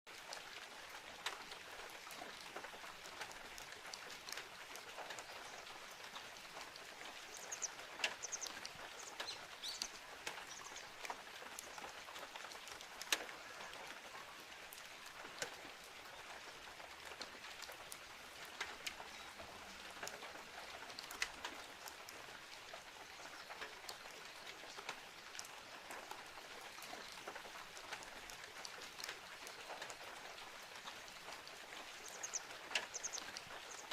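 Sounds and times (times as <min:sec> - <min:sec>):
sharp ticks of raindrops: 0:00.1 - 0:33.9
steady rain falling: 0:00.1 - 0:33.9.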